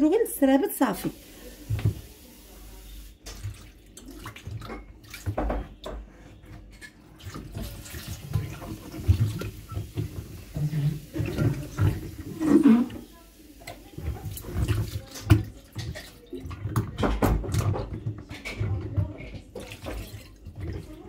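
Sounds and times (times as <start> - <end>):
water splashing and trickling: 0.8 - 5.8, 6.7 - 21.0.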